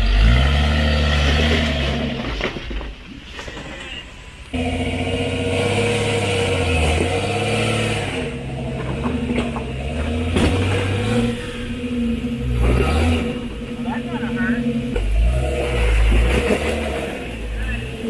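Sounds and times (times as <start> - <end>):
off-road engine revving: 0.0 - 2.9, 4.5 - 18.0.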